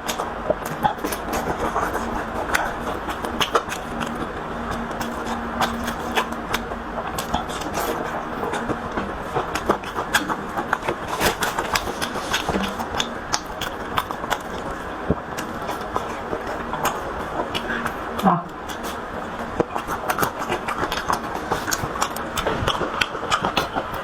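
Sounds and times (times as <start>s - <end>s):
steady background rumble: 0.0s - 24.0s
wet chewing and lip-smacking: 0.0s - 24.0s.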